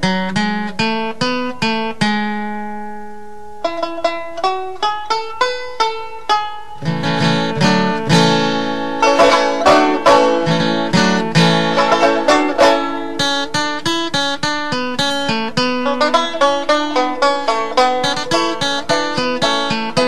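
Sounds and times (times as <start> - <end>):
plucked-string music: 0.0 - 20.0.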